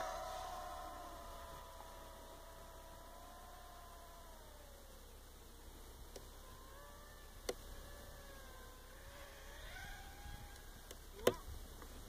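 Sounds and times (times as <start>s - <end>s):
model aircraft motor whine: 0.0s - 11.6s.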